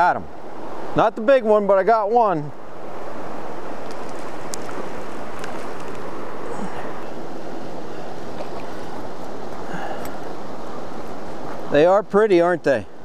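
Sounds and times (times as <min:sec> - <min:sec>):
creek rushing over stones: 0:00.0 - 0:13.0.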